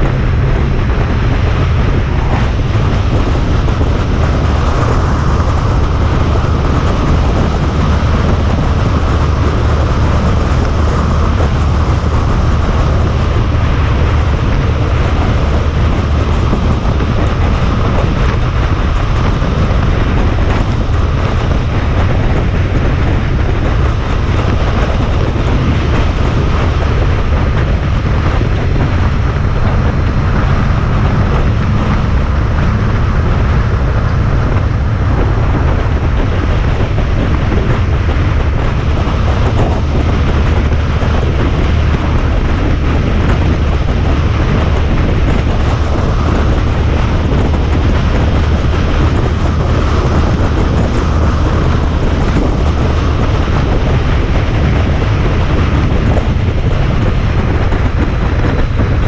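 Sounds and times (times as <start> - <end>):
motorcycle engine drone: 0.0 - 59.0
tyre noise on road: 0.0 - 59.0
wind rush: 0.0 - 59.0.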